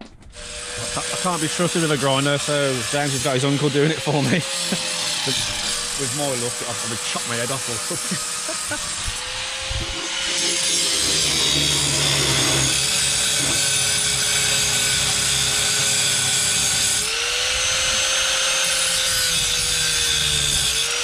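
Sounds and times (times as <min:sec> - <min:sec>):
angle grinder cutting metal: 0:00.3 - 0:21.0.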